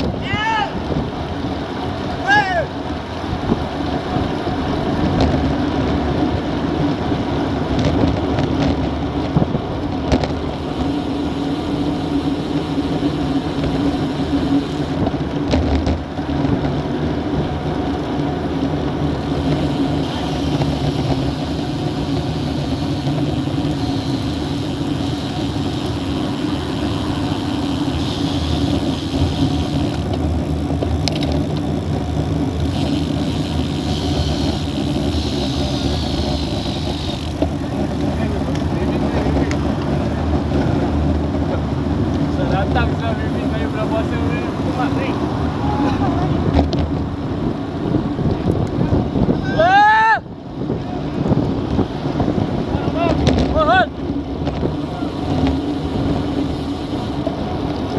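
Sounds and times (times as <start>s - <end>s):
bicycle tyre hum: 0.0s - 57.9s
car traffic: 0.0s - 57.9s
wind rush: 0.0s - 57.9s.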